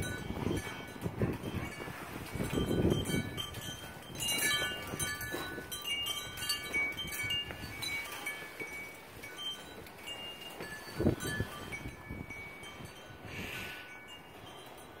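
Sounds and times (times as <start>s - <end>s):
metal wind chimes ringing: 0.0s - 15.0s
wind rumble on microphone: 0.0s - 15.0s.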